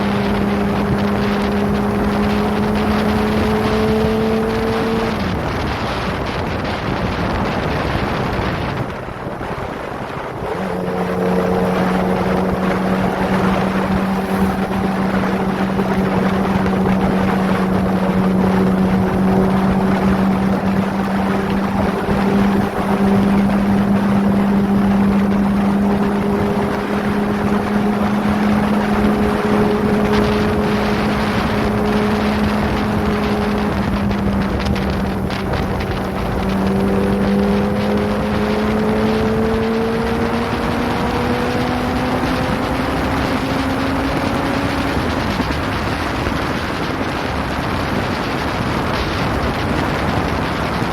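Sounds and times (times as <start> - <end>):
motorcycle engine cruising: 0.0 - 50.9
wind rushing over microphone: 0.0 - 50.9.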